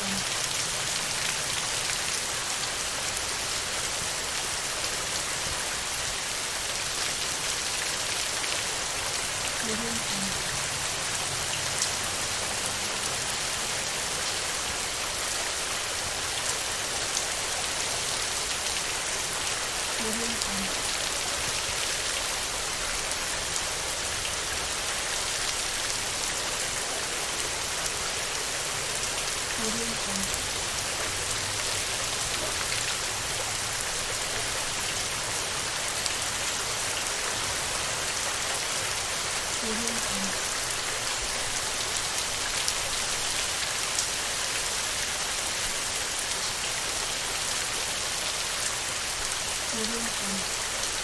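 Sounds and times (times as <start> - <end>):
heavy rain on a metal roof: 0.0 - 51.0.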